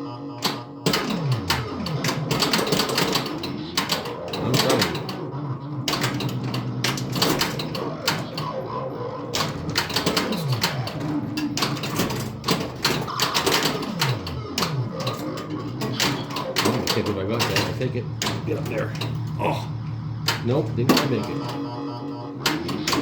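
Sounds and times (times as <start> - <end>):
electronic pinball sound effects: 0.0 - 23.0
pinball flippers and bumpers clacking: 0.3 - 23.0.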